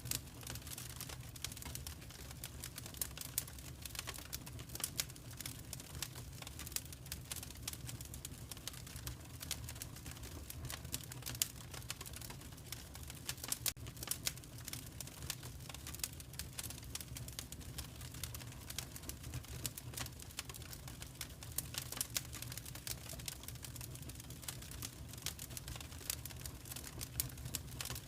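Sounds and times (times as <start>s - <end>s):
low fire rumble: 0.0s - 28.0s
wood fire crackling: 0.0s - 28.0s.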